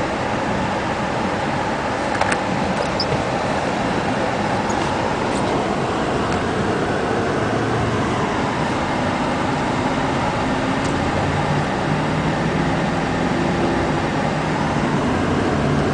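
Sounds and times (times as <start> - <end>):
low engine hum: 0.0 - 15.9
road and tyre noise: 0.0 - 15.9.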